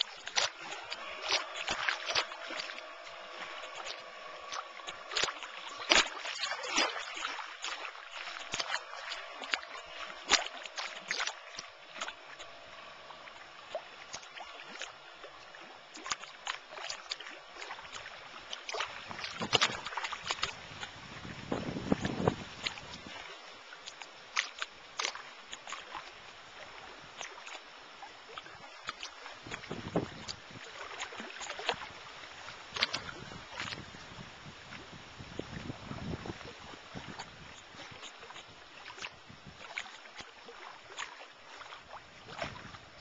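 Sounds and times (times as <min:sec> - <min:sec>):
model boat motor whine: 0:00.0 - 0:40.1
choppy water lapping and splashing: 0:00.0 - 0:43.0.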